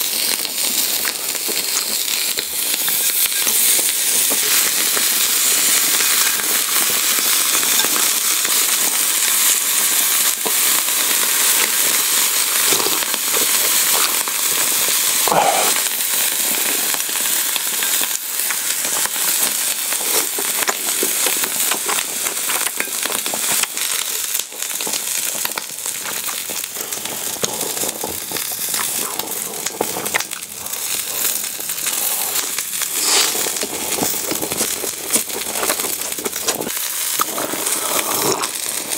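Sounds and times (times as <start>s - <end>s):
meat sizzling on a griddle: 0.0s - 38.9s.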